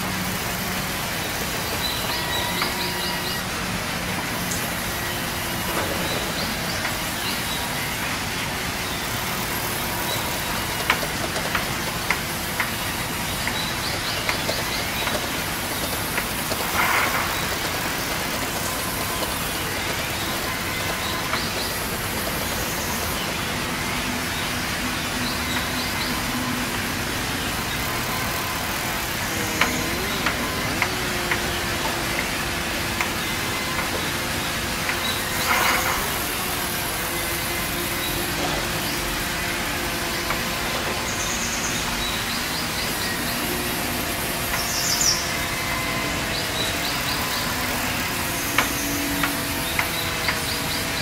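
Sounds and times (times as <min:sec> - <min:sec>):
band sawmill running: 0:00.0 - 0:51.0.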